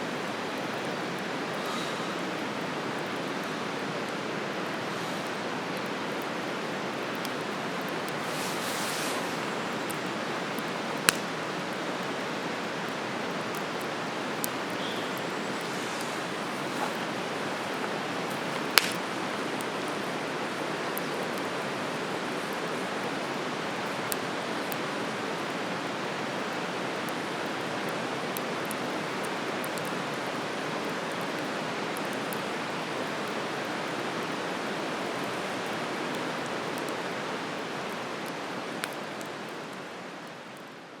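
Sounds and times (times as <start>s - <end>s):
campfire hissing and crackling: 0.0s - 41.0s.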